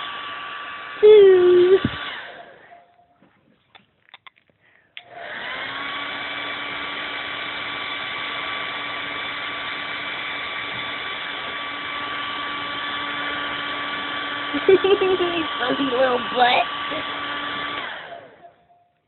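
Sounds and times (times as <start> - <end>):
hair dryer blowing: 0.0 - 2.7, 5.0 - 18.6.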